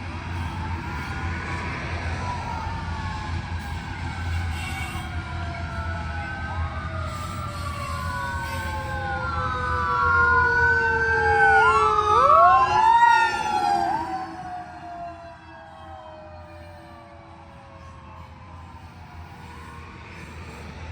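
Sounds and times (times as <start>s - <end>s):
emergency sirens wailing: 0.0s - 20.9s.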